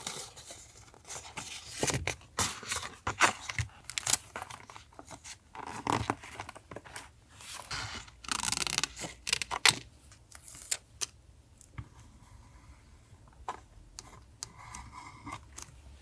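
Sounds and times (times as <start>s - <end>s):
paper and stickers rustling: 0.0s - 16.0s.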